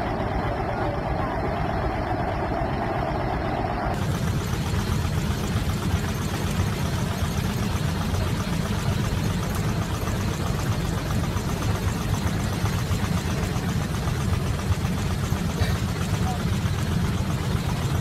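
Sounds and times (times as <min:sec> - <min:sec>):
airliner cabin rumbling and shaking: 0:00.0 - 0:18.0.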